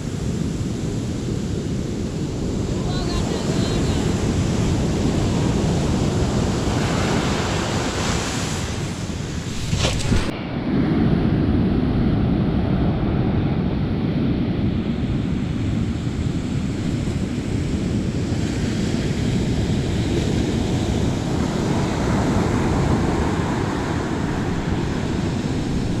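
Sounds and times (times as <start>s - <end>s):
ocean surf breaking on beach: 0.0s - 26.0s
wind rumbling on microphone: 0.0s - 26.0s.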